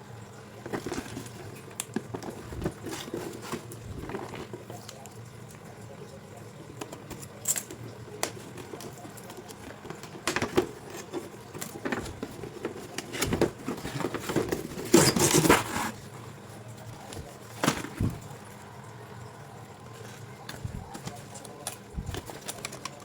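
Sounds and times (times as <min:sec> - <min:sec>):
packaging rustling: 0:00.6 - 0:05.0, 0:06.8 - 0:18.7, 0:19.9 - 0:23.0.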